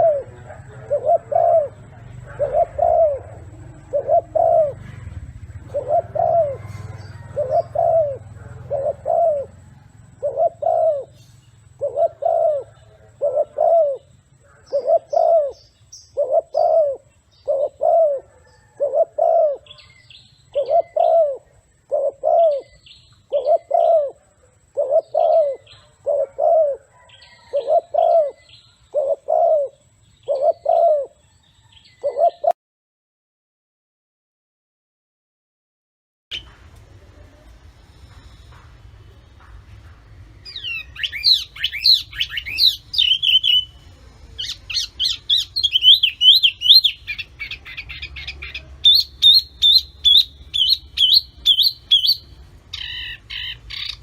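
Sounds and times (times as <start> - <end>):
cage bird calling: 0.0 - 32.6, 36.3 - 54.0.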